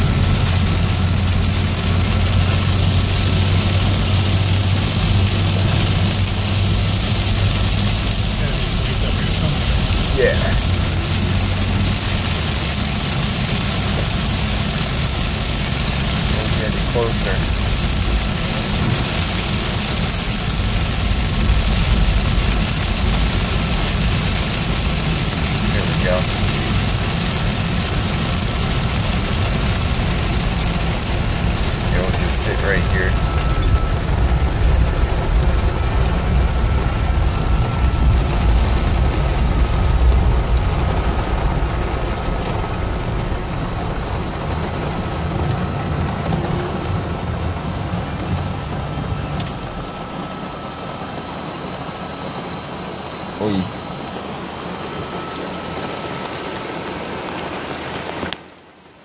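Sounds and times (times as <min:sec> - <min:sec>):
car engine rumble: 0:00.0 - 0:59.0
heavy rain on car roof: 0:00.0 - 0:59.0
tyres on wet road: 0:00.0 - 0:59.0.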